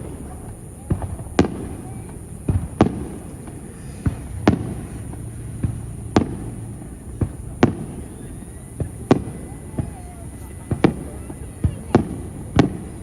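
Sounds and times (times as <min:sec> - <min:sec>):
low rumble: 0:00.0 - 0:10.8
fireworks bursting: 0:00.0 - 0:13.0.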